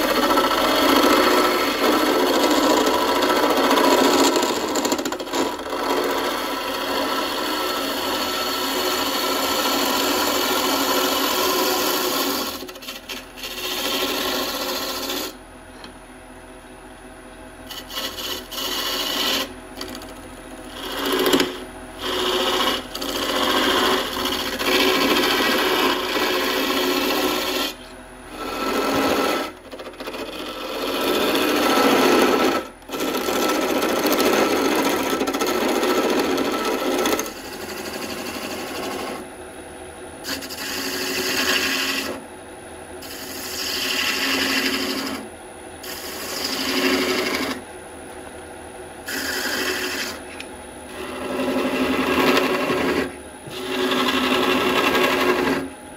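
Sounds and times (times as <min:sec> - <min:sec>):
lathe tool scraping wood: 0:00.0 - 0:15.4, 0:17.6 - 0:39.3, 0:40.2 - 0:42.3, 0:43.0 - 0:47.7, 0:49.0 - 0:55.7.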